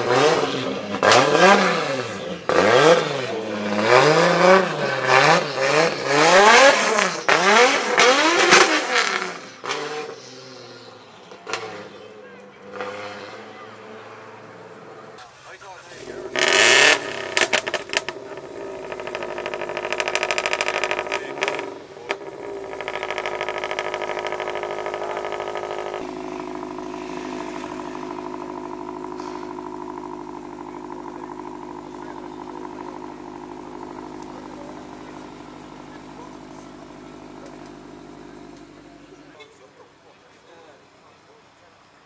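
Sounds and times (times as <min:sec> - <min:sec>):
car engines running: 0:00.0 - 0:42.0.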